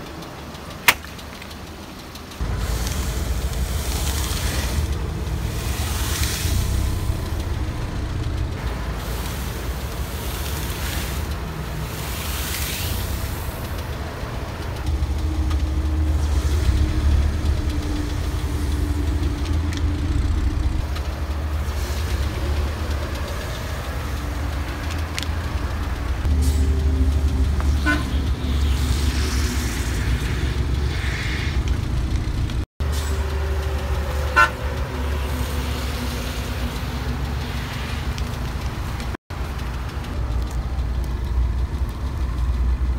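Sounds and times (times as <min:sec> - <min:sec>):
car engine running at low speed: 0:00.0 - 0:42.9.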